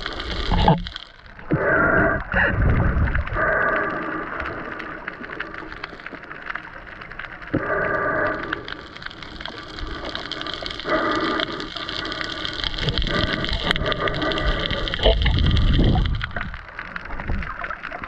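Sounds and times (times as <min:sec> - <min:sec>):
underwater crackle of clicks: 0:00.0 - 0:18.0
water rushing and gurgling: 0:00.0 - 0:18.0.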